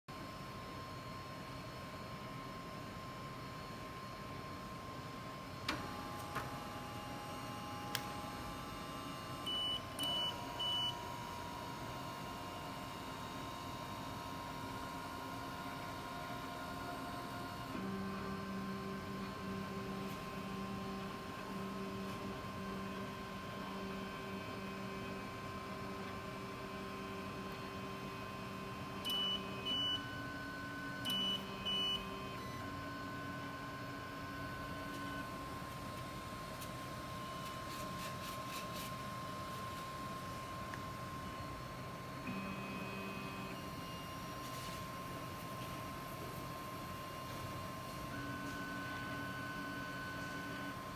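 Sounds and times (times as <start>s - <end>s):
steady electrical hum: 0.1s - 50.9s.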